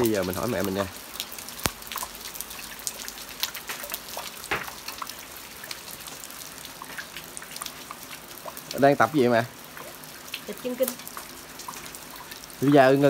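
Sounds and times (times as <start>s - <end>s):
faint water noise: 0.0s - 13.0s
rain drops pattering: 0.0s - 13.0s.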